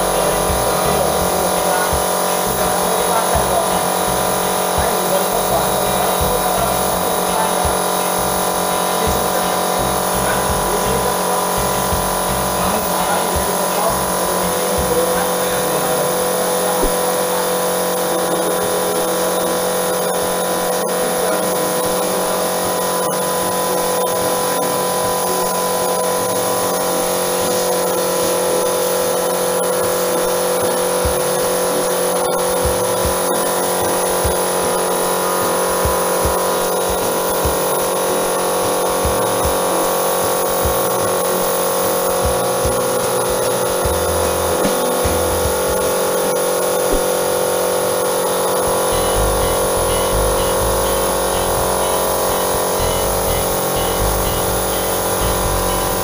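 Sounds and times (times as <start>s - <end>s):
air compressor motor humming: 0.0s - 56.0s.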